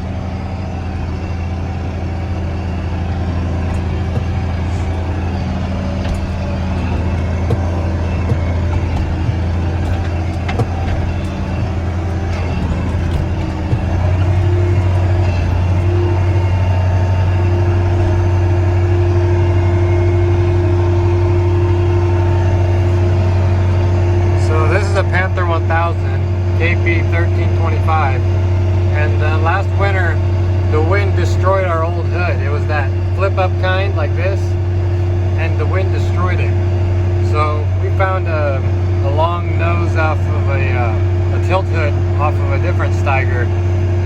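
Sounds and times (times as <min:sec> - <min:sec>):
high steady whine: 0:00.0 - 0:44.0
tractor diesel engine running: 0:00.0 - 0:44.0.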